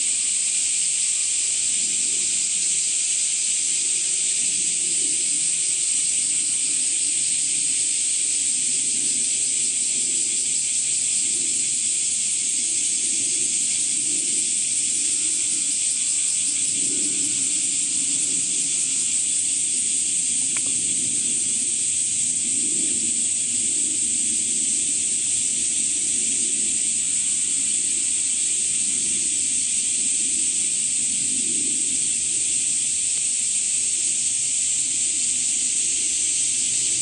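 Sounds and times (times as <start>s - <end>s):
insect chorus hiss: 0.0s - 37.0s.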